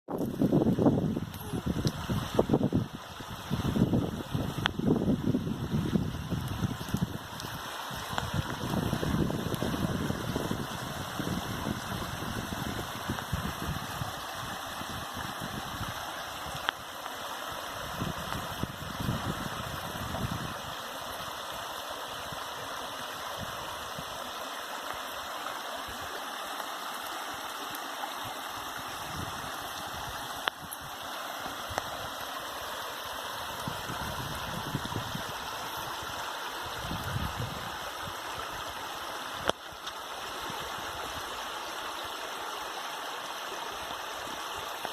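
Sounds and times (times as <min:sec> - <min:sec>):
stream water rushing: 0:00.1 - 0:44.9.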